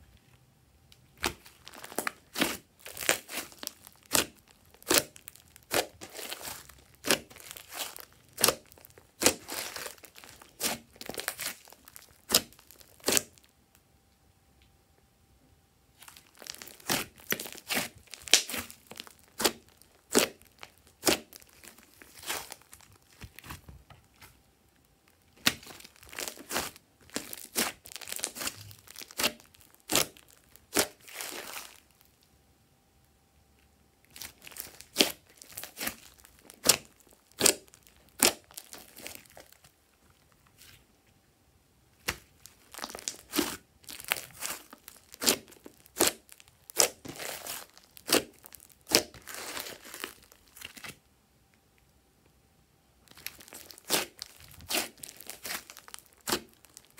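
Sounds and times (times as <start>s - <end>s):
slime popping and crackling: 1.1s - 13.5s, 16.0s - 23.7s, 25.1s - 32.2s, 34.1s - 40.7s, 42.0s - 51.0s, 53.0s - 56.9s.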